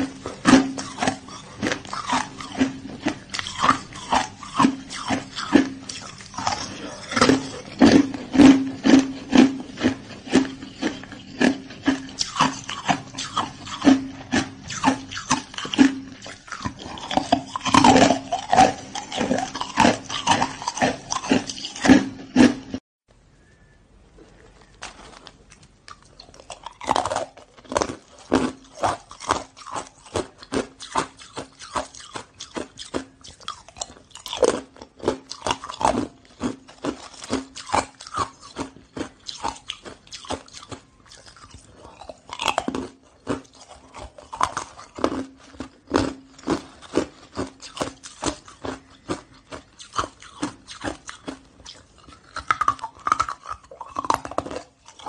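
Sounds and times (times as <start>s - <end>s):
ice crunched between teeth: 0.0s - 22.8s, 24.7s - 55.0s
faint steady hum: 0.0s - 55.0s.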